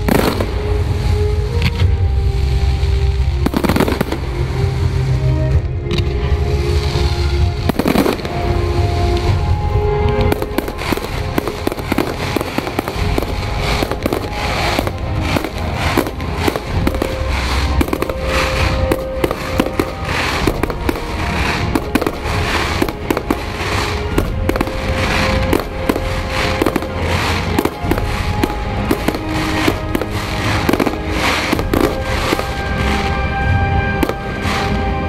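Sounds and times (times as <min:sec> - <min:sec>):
fireworks bursting: 0:00.0 - 0:35.0
music playing: 0:00.0 - 0:35.0.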